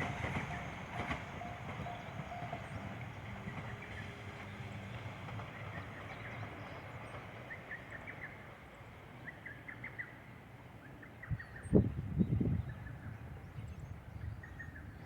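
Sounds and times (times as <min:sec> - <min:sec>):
faint low train rumble: 0:00.0 - 0:15.0.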